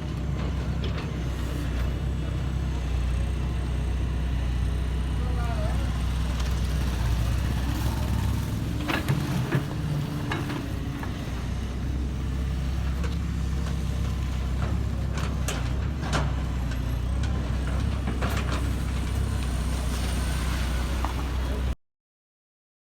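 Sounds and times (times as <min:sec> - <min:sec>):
heavy diesel engine running: 0:00.0 - 0:21.8.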